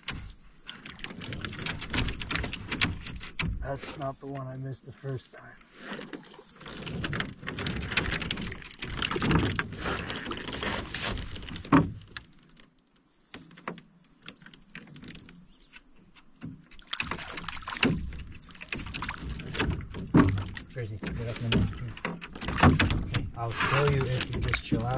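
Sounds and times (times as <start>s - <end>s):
knocks and rattles in metal canoe: 0.0s - 4.6s, 5.7s - 24.9s.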